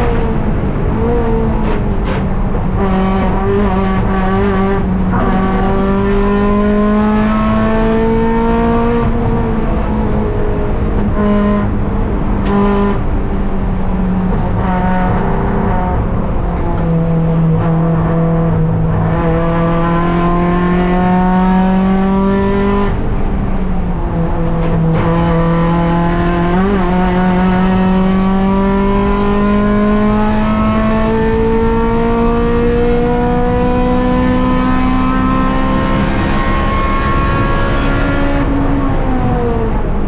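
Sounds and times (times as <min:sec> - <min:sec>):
car engine at high revs: 0:00.0 - 0:40.0.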